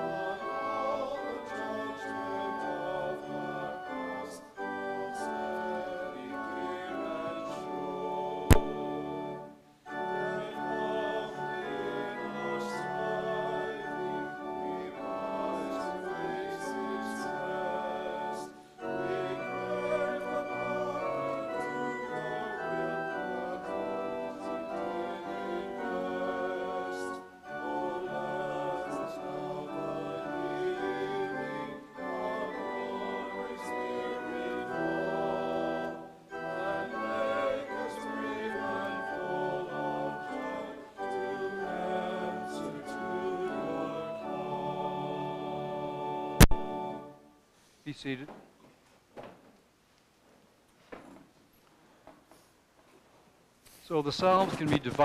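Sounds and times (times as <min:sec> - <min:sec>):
choir singing a hymn: 0:00.0 - 0:47.3
pipe organ: 0:00.0 - 0:47.3.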